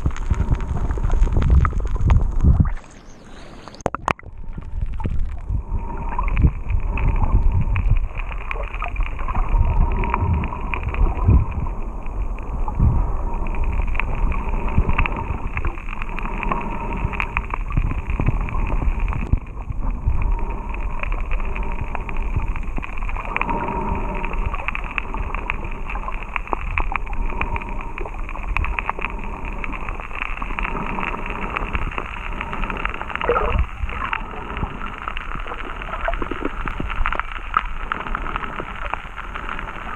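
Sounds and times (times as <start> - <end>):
faint scattered clicks: 0.0 - 39.9
muffled underwater rumble and gurgle: 0.0 - 39.9.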